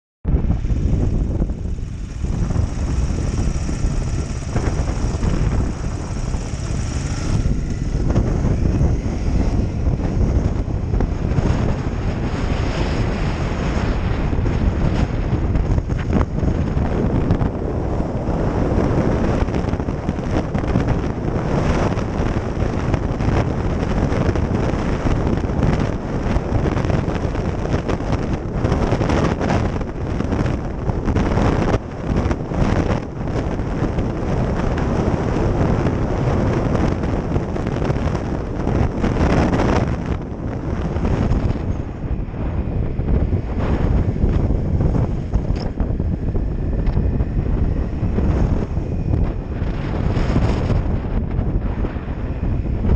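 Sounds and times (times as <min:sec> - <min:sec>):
wind buffeting microphone: 0:00.2 - 0:52.9
motorcycle engine running: 0:00.3 - 0:52.9.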